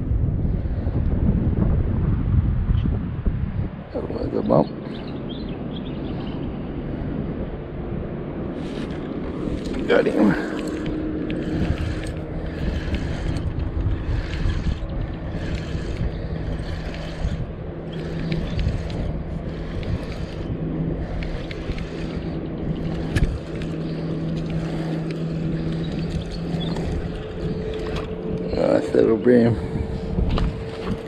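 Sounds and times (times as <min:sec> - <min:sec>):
steady low hum: 0:00.0 - 0:31.0
wind buffeting microphone: 0:00.0 - 0:31.0.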